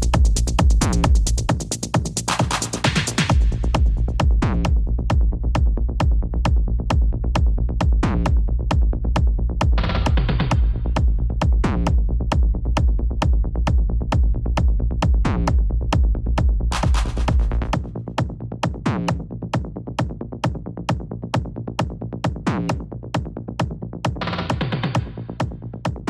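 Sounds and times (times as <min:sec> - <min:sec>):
drum machine techno beat: 0:00.0 - 0:26.0
heavy bass: 0:00.0 - 0:26.0.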